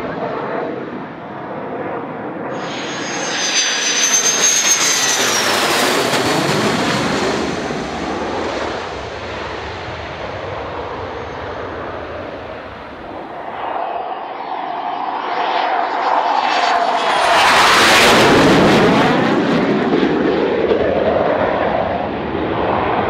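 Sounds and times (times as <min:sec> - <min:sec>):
jet engine whine and roar: 0:00.0 - 0:23.0.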